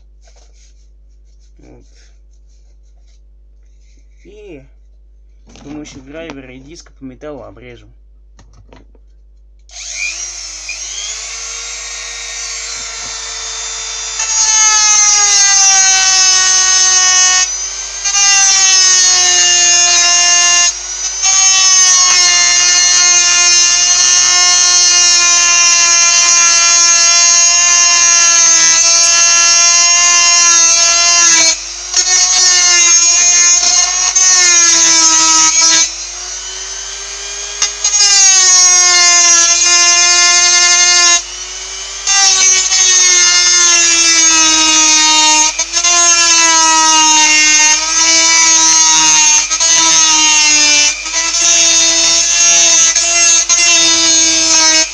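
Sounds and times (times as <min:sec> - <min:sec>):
cutting disc grinding through metal: 0:09.7 - 0:54.9
rotary tool motor whine: 0:09.7 - 0:54.9.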